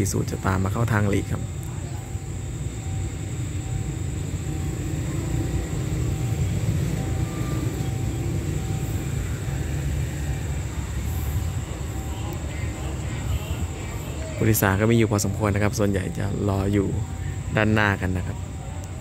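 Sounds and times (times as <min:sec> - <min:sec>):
diesel locomotive rumble: 0:00.0 - 0:19.0.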